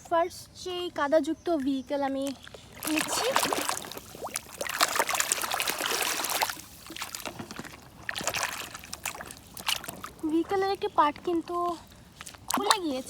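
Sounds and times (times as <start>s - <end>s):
water splashing and sloshing: 2.1s - 13.0s
water trickling: 2.2s - 13.0s.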